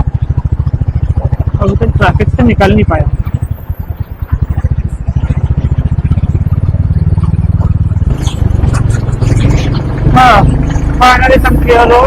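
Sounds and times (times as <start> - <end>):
motorcycle running: 0.0 - 12.0.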